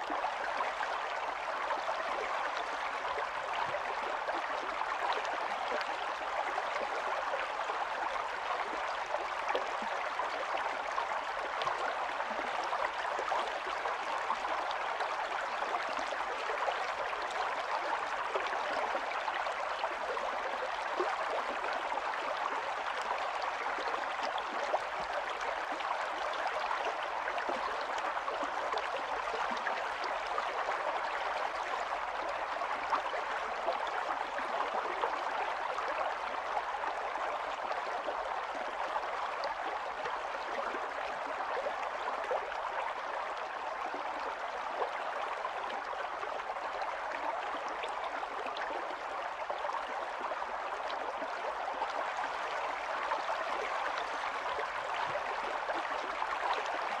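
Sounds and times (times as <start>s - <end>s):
stream water gurgling: 0.0s - 57.0s.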